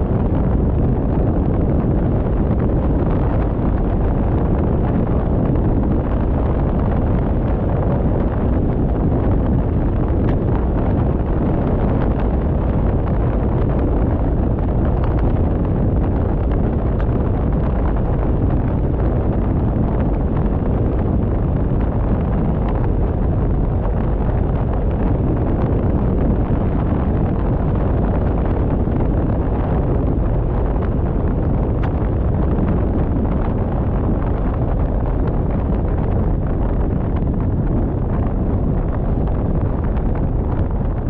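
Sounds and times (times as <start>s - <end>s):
car road noise: 0.0s - 41.0s
wind rumbling on microphone: 0.0s - 41.0s.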